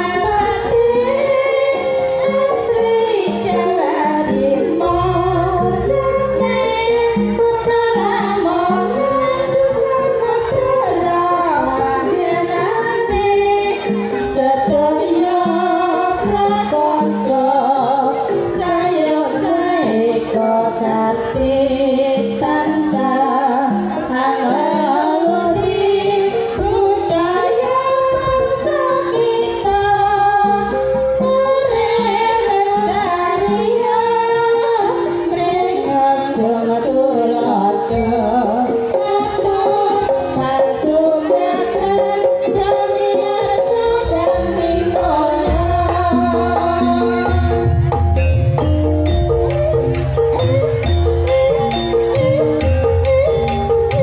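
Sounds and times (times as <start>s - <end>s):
women singing together: 0.0s - 48.0s
backing music: 0.0s - 54.0s.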